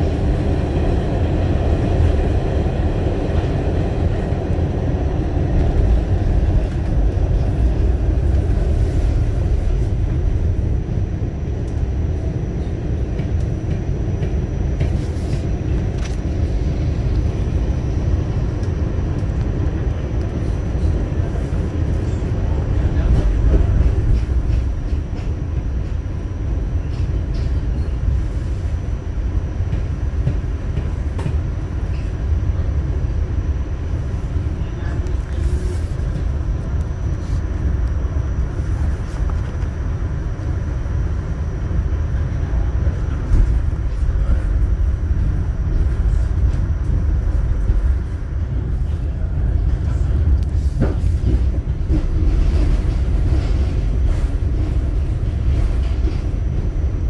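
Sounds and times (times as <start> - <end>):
rumble of wheels on rail: 0.0 - 57.0.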